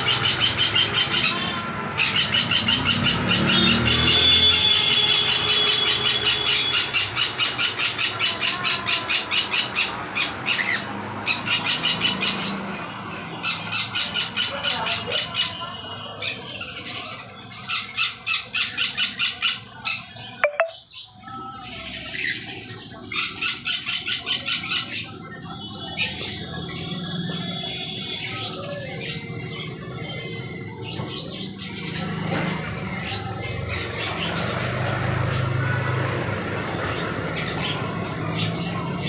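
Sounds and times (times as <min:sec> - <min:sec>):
pet birds calling shrilly: 0:00.0 - 0:36.1.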